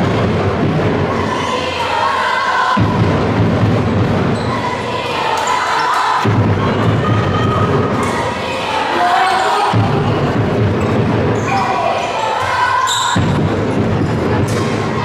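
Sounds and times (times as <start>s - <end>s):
background noise from stands: 0.0s - 15.0s.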